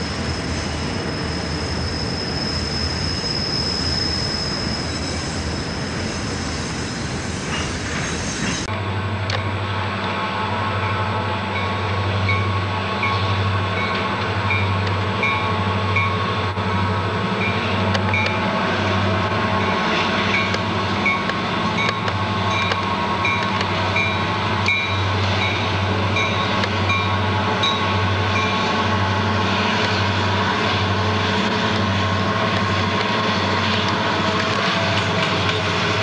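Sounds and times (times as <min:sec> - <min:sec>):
locomotive engine drone: 0:00.0 - 0:36.0.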